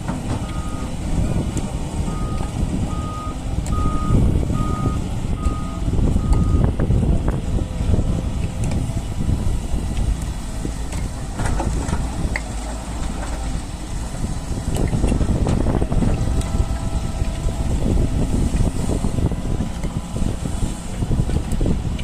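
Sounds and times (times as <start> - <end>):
excavator diesel engine rumbling: 0.0 - 22.0
wind buffeting microphone: 0.0 - 22.0.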